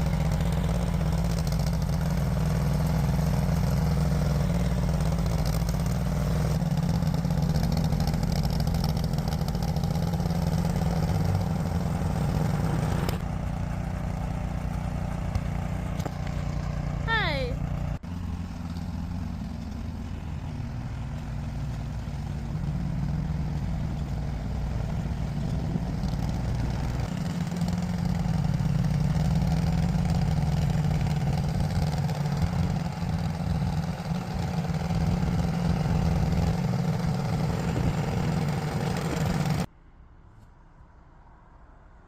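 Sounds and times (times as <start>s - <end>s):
vehicle engine humming: 0.0s - 42.0s.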